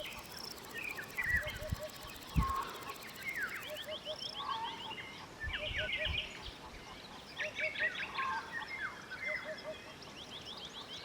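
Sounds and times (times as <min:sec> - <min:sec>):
songbirds chirping and trilling: 0:00.0 - 0:11.0.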